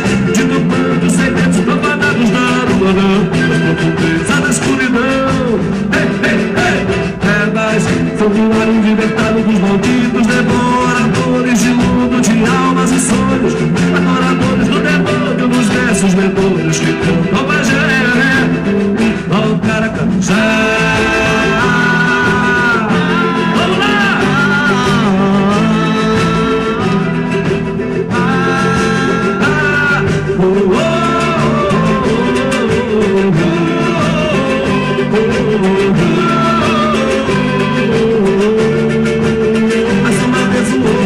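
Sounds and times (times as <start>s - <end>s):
band with percussion beat: 0.0s - 41.0s
man singing lead: 0.0s - 41.0s.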